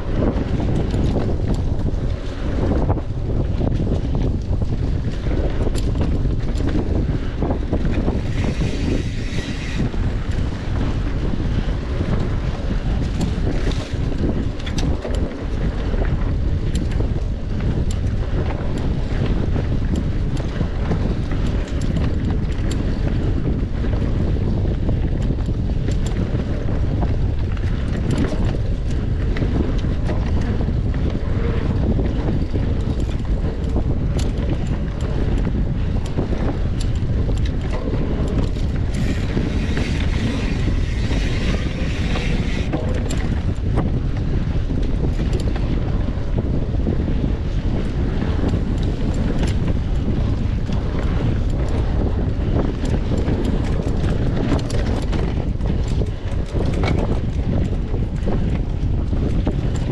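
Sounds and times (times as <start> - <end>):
bike clicks and knocks: 0.0 - 59.9
wind buffeting microphone: 0.0 - 59.9.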